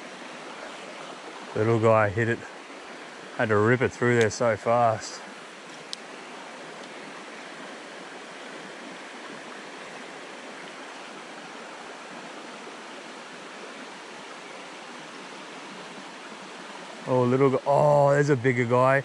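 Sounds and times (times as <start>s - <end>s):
creek water running over rocks: 0.0s - 19.0s.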